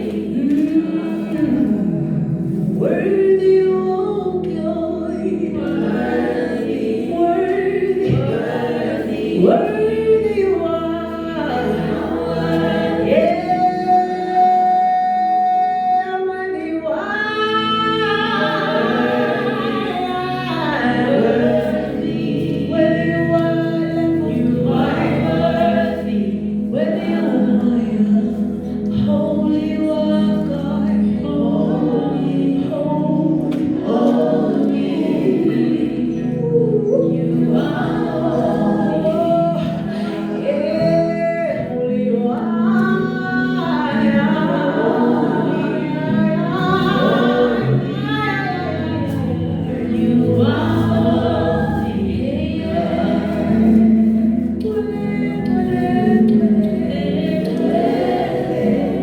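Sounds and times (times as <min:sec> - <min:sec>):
gospel choir singing: 0:00.0 - 0:59.0
low musical accompaniment: 0:00.0 - 0:59.0.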